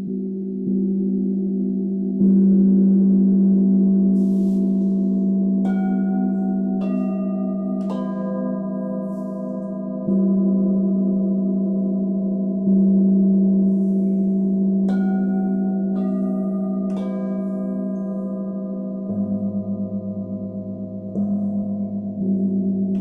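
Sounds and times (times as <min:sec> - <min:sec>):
gongs and singing bowls ringing: 0:00.0 - 0:23.0.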